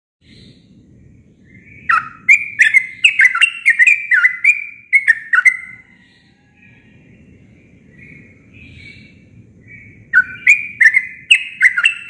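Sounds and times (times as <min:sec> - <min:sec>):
bird singing bubbly notes: 0:00.2 - 0:06.0, 0:07.9 - 0:12.0.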